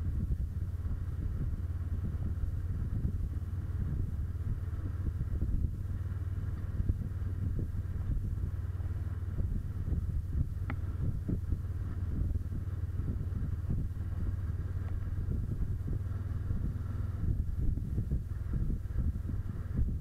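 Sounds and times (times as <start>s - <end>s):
motorcycle engine rumble: 0.0s - 20.0s
wind buffeting microphone: 0.0s - 20.0s.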